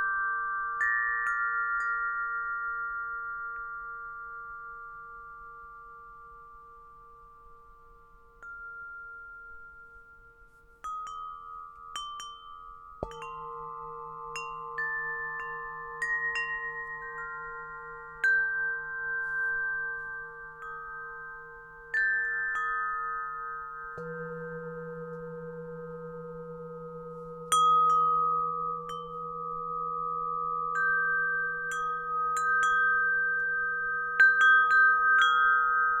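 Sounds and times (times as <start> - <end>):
metal wind chimes ringing: 0.0 - 36.0.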